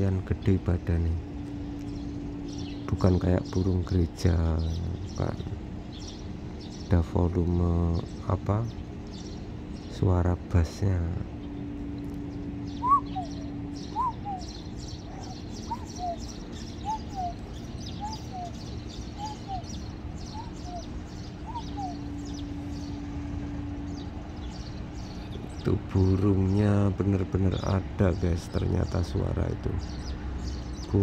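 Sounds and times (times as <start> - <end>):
cuckoo calling: 0.0 - 31.0
insects chirping: 0.0 - 31.0
steady low hum: 0.0 - 31.0.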